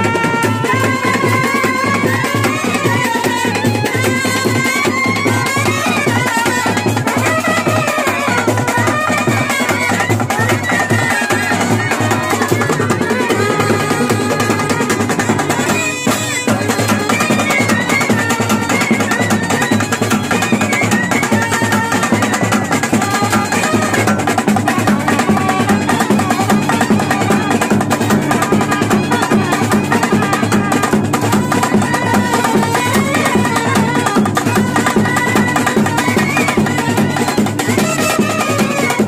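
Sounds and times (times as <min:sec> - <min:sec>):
snare and side drums: 0:00.0 - 0:39.0
trumpets playing melody: 0:00.0 - 0:39.0.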